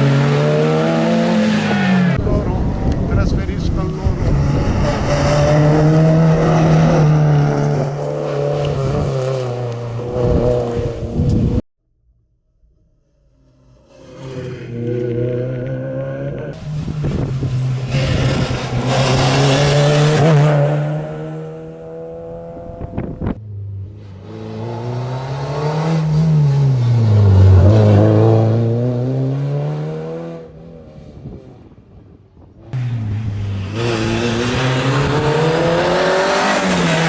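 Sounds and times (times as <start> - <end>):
rally car engine revving: 0.0 - 11.6, 13.8 - 31.8, 32.7 - 37.0.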